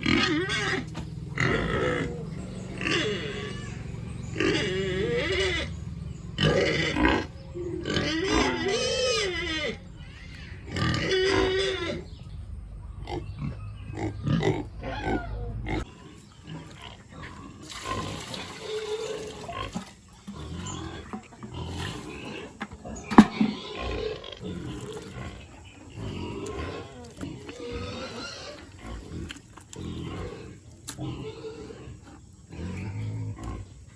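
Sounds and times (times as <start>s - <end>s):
pigs calling: 0.0s - 12.3s, 12.9s - 33.9s.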